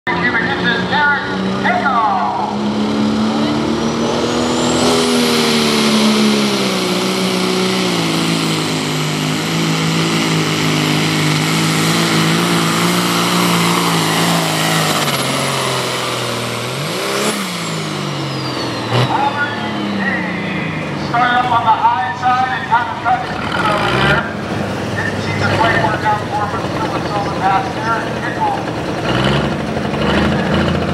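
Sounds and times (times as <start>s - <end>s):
diesel tractor engine under load: 0.1s - 30.9s.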